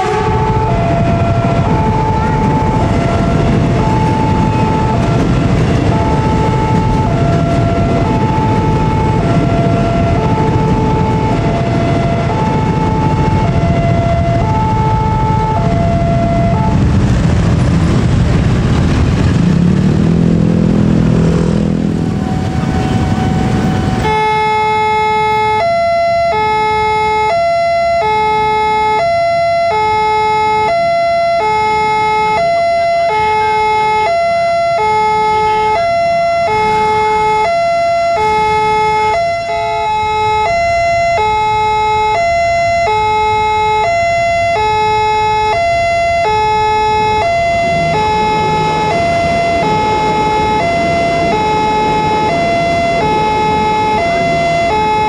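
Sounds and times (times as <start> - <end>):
two-tone level crossing alarm: 0.0 - 16.9, 22.0 - 55.0
road traffic: 0.0 - 55.0.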